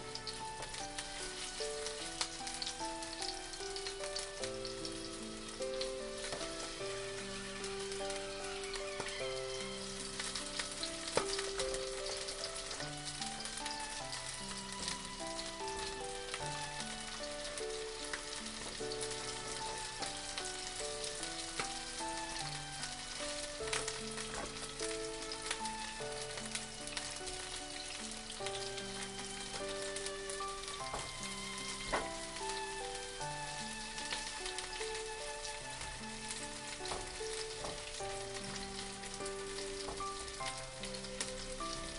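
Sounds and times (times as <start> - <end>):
chicken sizzling in a pan: 0.0 - 41.9
gentle background melody: 0.0 - 41.9.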